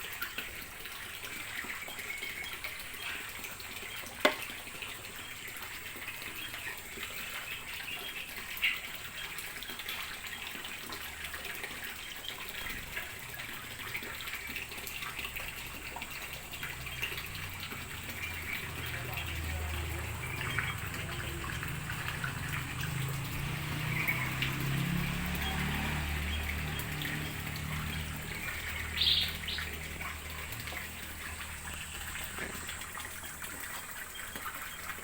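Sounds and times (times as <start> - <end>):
water running and trickling: 0.0 - 35.0.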